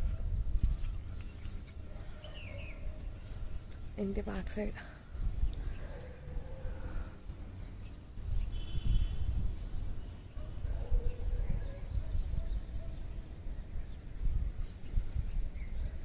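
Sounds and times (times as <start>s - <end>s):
small birds chirping: 0.0s - 16.0s
wind rumble on microphone: 0.0s - 16.0s.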